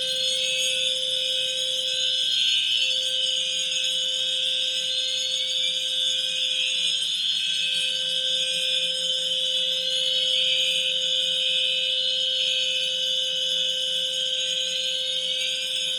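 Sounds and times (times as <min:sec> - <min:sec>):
high-pitched alarm ringing: 0:00.0 - 0:15.9.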